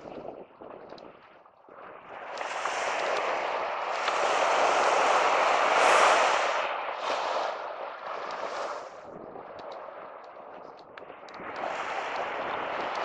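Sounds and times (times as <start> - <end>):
waves washing up a beach: 0.0 - 13.0.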